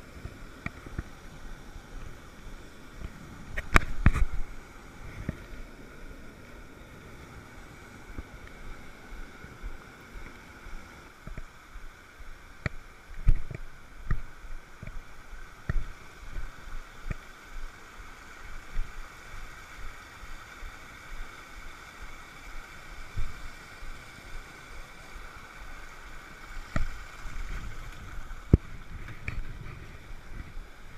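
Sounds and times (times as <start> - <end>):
stream rushing over boulders: 0.0 - 30.9.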